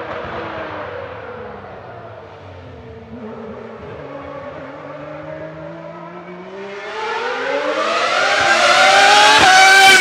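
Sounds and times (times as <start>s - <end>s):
racing car engine accelerating: 0.0s - 10.0s.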